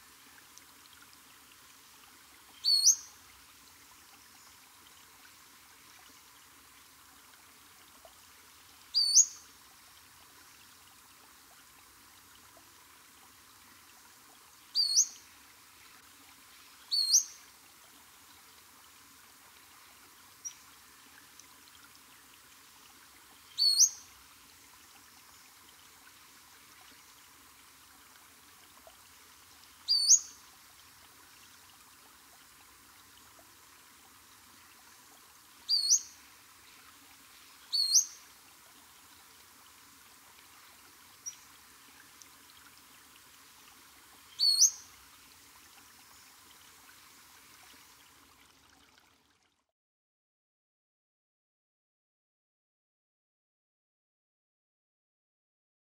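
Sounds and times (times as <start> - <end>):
faint steady hiss: 0.0 - 49.6.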